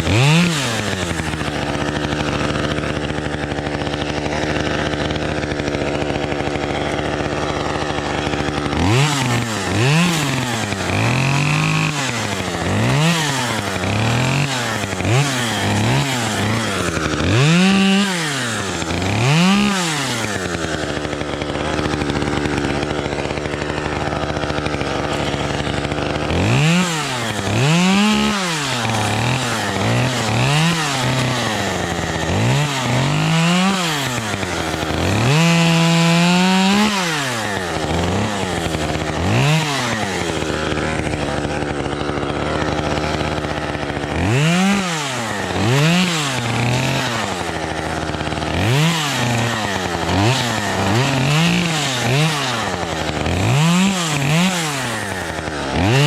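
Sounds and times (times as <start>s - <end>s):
chainsaw idling and revving: 0.0s - 56.0s.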